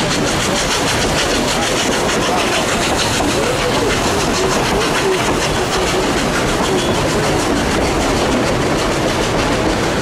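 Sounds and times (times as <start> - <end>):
steam train on rails: 0.0 - 10.0.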